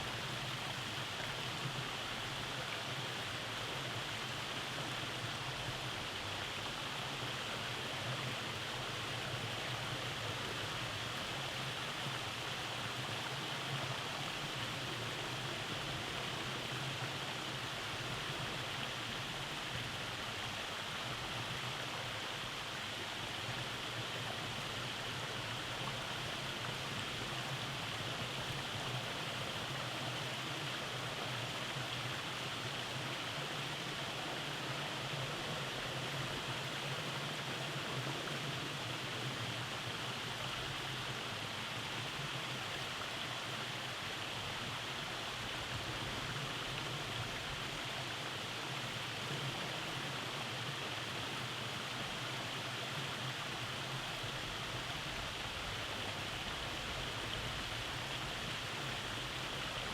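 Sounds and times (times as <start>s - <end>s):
stream rushing over cascades: 0.0s - 59.9s.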